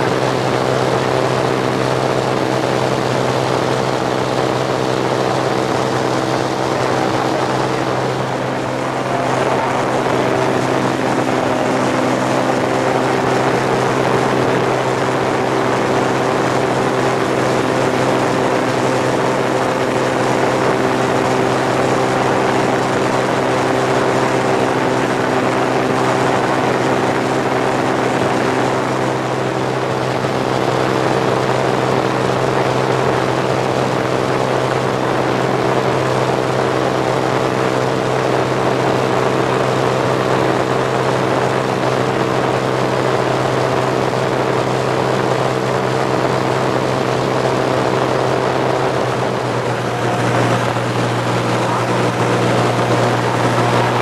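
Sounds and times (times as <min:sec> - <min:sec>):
light airplane engine droning: 0:00.0 - 0:54.0.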